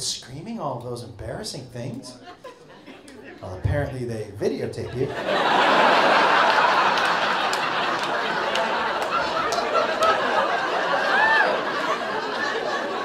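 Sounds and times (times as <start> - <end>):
audience laughing: 2.1 - 13.0.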